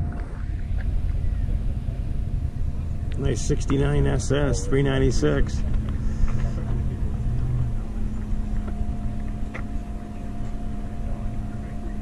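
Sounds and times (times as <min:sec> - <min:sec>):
low uneven rumble: 0:00.0 - 0:12.0
steady mechanical hum: 0:00.0 - 0:12.0.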